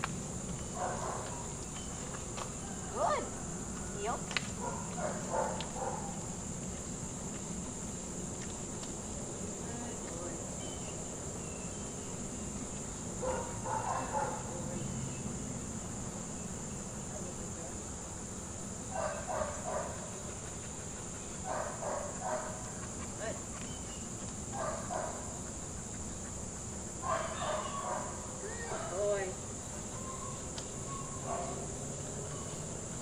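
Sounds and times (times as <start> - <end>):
insect chorus buzzing: 0.0 - 33.0.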